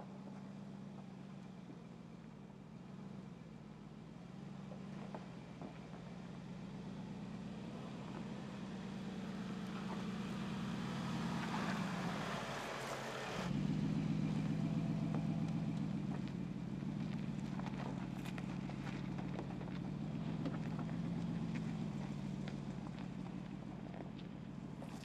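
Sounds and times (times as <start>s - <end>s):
engine running at low revs: 0.0s - 25.0s.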